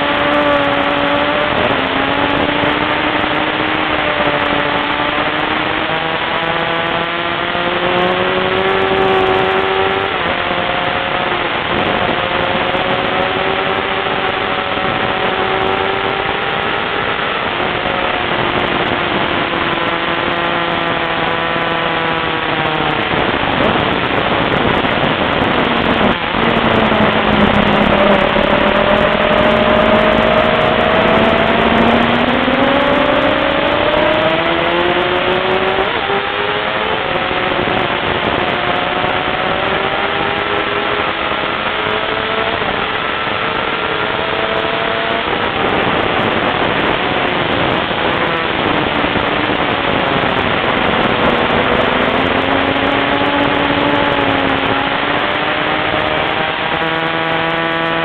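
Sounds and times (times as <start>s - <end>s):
motorcycle engine running hard: 0.0s - 58.0s
wind rush on microphone: 0.0s - 58.0s.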